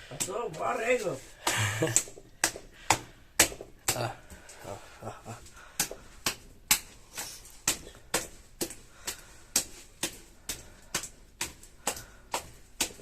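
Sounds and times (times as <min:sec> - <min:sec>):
dough being beaten: 0:00.0 - 0:13.0.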